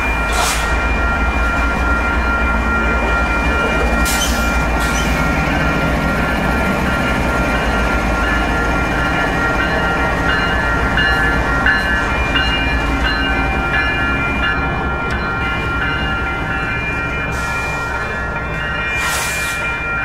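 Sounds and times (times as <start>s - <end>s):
diesel locomotive engine rumbling: 0.0s - 20.0s
locomotive bell ringing: 0.0s - 20.0s.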